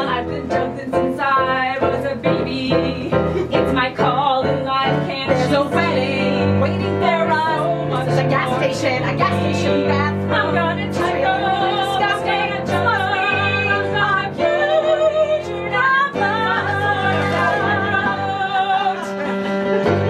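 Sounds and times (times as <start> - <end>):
women singing with vibrato: 0.0 - 19.5.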